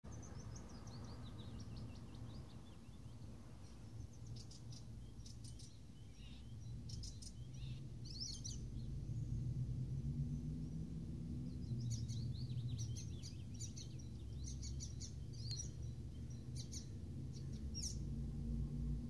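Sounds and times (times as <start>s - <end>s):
low city rumble: 0.0s - 19.0s
songbirds singing: 0.0s - 19.0s.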